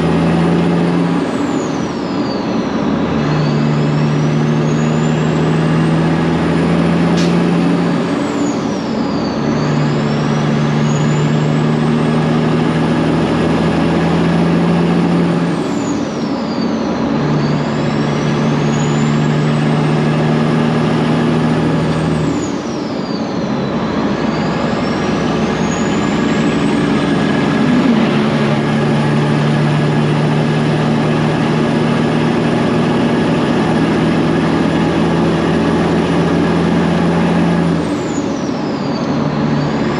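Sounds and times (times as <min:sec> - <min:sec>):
diesel truck exhaust under load: 0:00.0 - 0:39.9.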